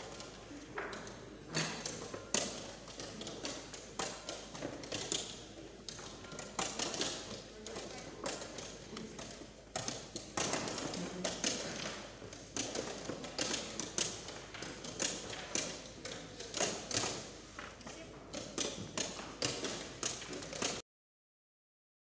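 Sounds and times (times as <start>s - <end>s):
chess pieces clacking on board: 0.0s - 20.8s.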